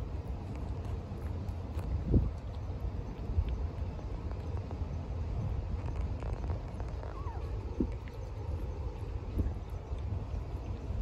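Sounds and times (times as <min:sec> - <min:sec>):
kitten chewing food: 0:00.0 - 0:04.9, 0:05.5 - 0:11.0
low outdoor rumble: 0:00.0 - 0:11.0.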